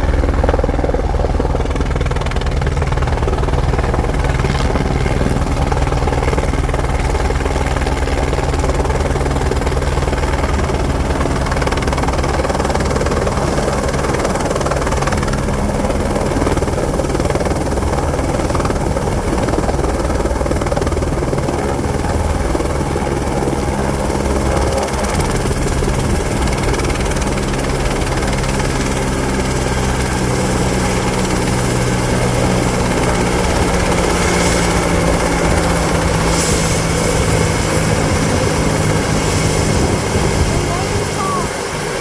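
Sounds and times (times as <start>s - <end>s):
helicopter rotor and engine: 0.0s - 42.0s.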